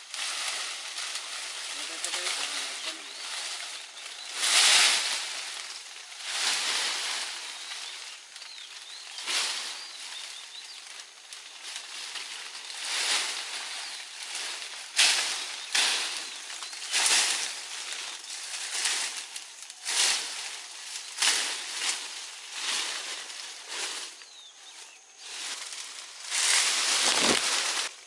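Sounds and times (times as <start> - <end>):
leafy branches rustling and swishing: 0.0 - 28.0.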